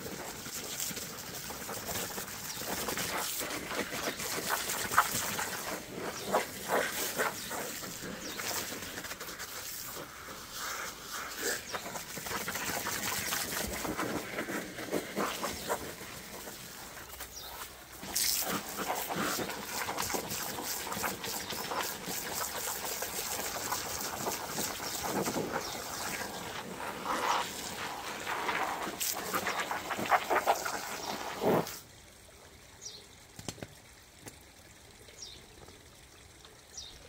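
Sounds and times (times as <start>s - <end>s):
hose nozzle spray hissing: 0.0s - 31.8s
water splashing: 0.0s - 31.8s.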